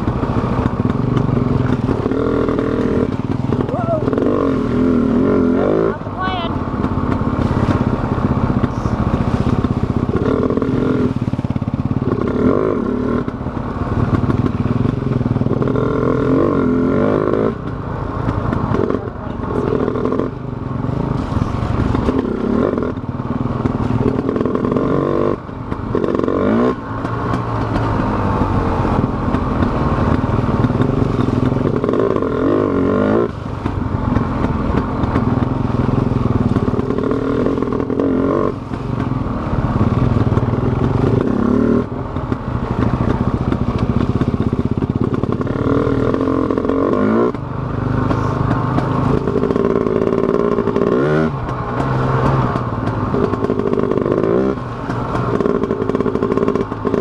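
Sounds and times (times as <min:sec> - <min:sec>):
bike rattling over rough trail: 0:00.0 - 0:57.0
dirt bike engine revving: 0:00.0 - 0:57.0.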